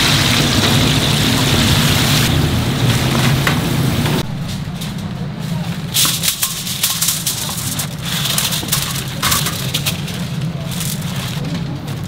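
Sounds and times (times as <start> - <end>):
food preparation clatter: 0.0 - 12.0
steady low hum: 0.0 - 12.0.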